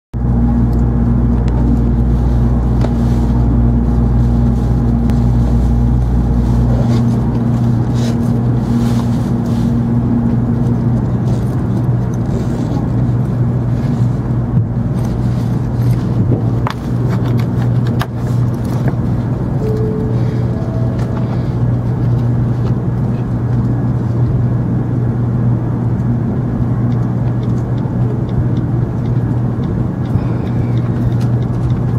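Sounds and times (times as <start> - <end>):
noisy background: 0.2 - 31.9
train electrical hum: 0.2 - 31.9.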